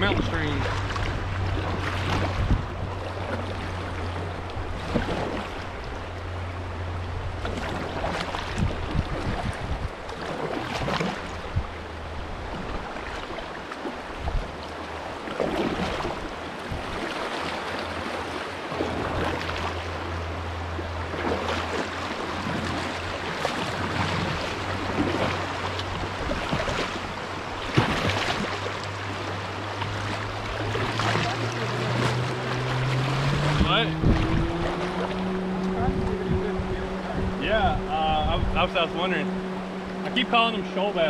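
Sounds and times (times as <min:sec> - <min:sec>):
water chop against hull: 0:00.0 - 0:06.3, 0:07.0 - 0:20.1, 0:20.8 - 0:41.0
fast river water rushing: 0:00.0 - 0:41.0
paddle splashes: 0:00.0 - 0:41.0.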